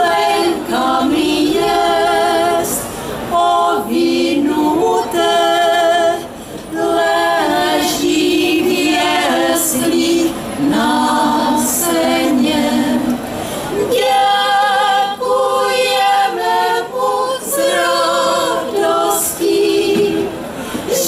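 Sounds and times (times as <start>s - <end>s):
women singing a cappella: 0.0s - 21.0s.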